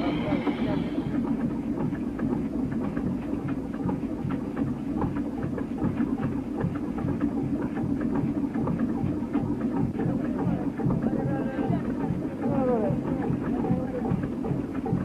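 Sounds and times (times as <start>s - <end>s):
boat motor chugging: 0.0s - 15.0s.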